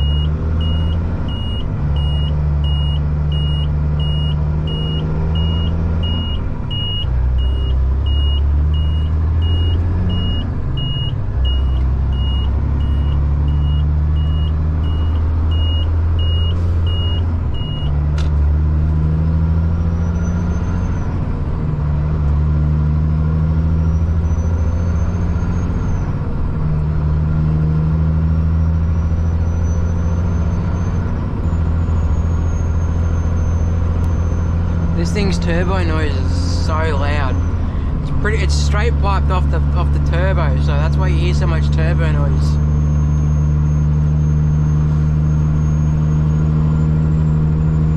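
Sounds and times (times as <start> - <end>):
diesel truck pulling through gears: 0.0 - 47.9.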